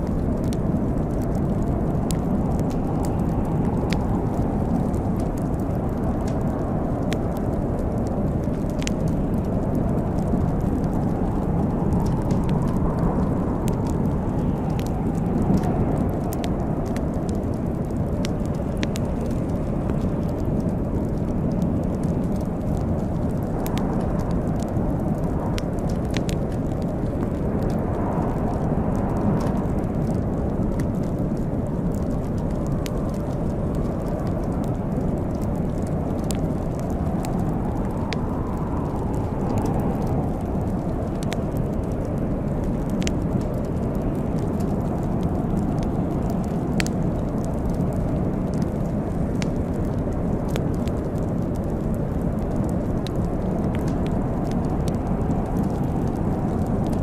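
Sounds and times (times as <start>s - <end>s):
fire popping: 0.0s - 57.0s
low rumble: 0.0s - 57.0s
wood fire crackling: 0.0s - 57.0s.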